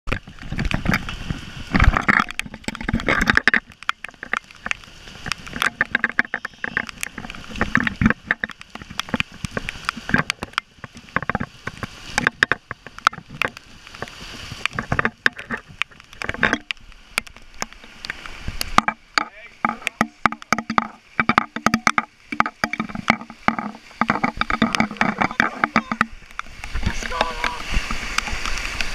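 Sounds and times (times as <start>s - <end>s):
floodwater rushing along a street: 0.1s - 28.9s
rain hitting the microphone: 0.1s - 28.9s
water gushing from a drain: 0.1s - 28.9s.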